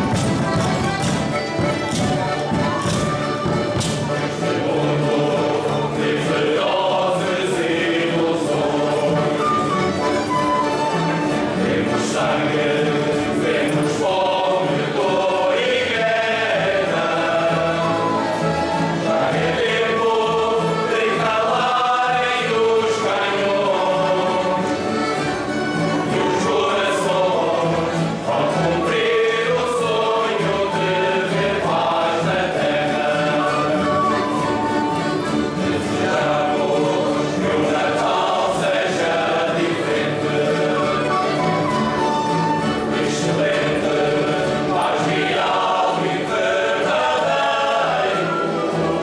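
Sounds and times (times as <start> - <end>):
group singing a hymn-like song: 0.0 - 49.0.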